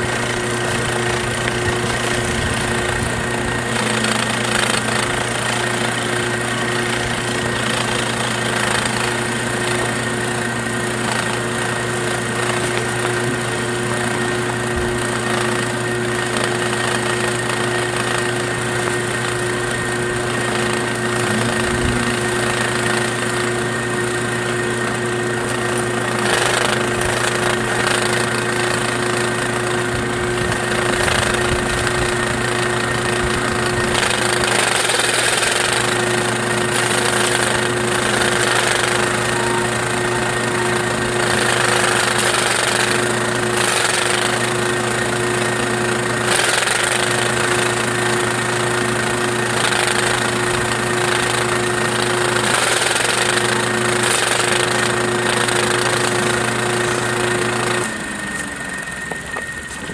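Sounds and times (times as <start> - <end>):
electric motor humming: 0.0 - 59.9
snow being shredded: 0.0 - 59.9.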